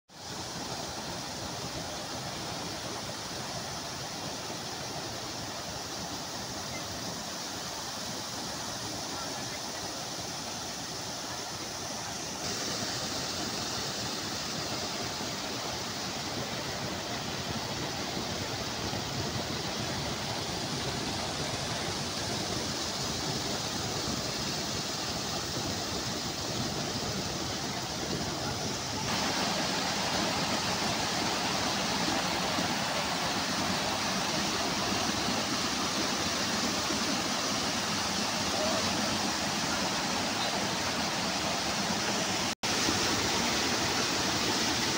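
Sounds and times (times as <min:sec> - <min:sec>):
waterfall splashing into a pool: 0:00.1 - 0:44.9.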